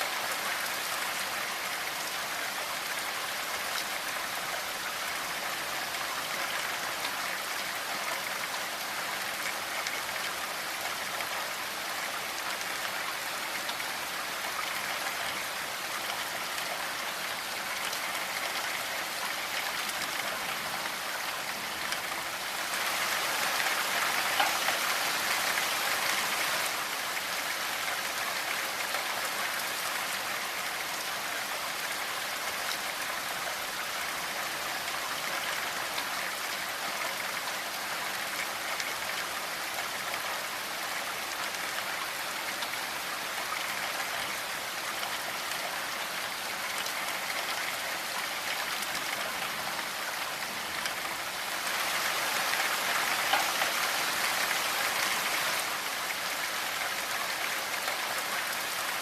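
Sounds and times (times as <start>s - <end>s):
rain pattering on surfaces: 0.0s - 59.0s.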